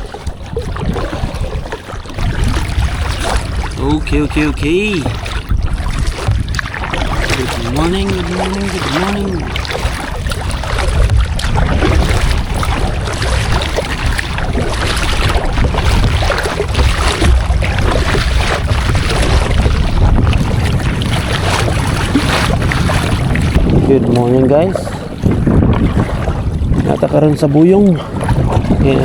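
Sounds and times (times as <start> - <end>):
sea water: 0.0 - 29.0
wind buffeting microphone: 0.0 - 29.0.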